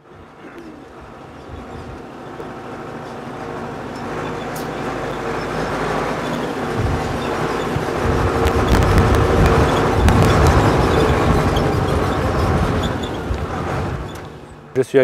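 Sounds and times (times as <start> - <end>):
tractor engine running: 0.0 - 14.8.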